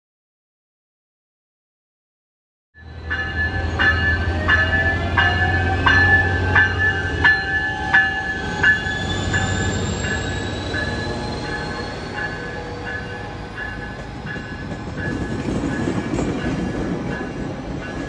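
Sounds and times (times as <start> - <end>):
locomotive bell ringing: 2.8 - 18.0
locomotive engine drone: 2.8 - 18.0.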